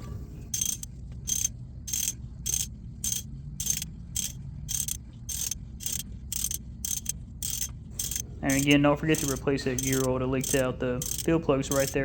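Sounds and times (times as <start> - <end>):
ratchet wrench clicking: 0.5 - 12.0.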